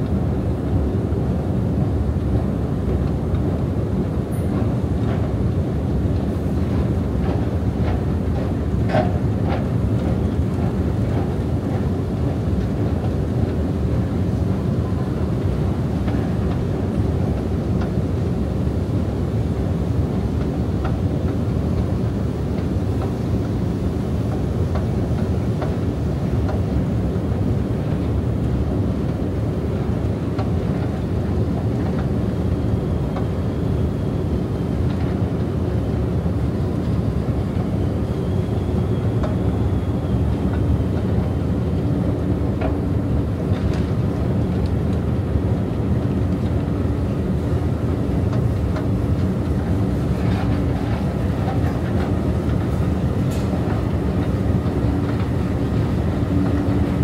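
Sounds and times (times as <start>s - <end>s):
escalator mechanical rumble: 0.0s - 57.0s
escalator steps clicking: 4.4s - 18.7s, 19.6s - 57.0s.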